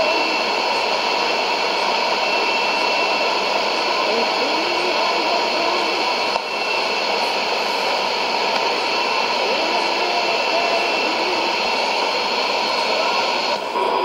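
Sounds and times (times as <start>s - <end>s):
faint unintelligible radio audio: 0.0s - 14.0s
radio static hiss: 0.0s - 14.0s.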